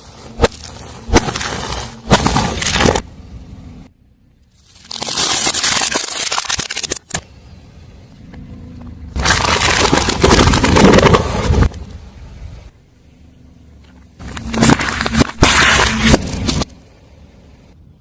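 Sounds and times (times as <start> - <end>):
car tyre crunching objects: 0.0 - 3.8, 4.4 - 12.7, 13.7 - 17.0.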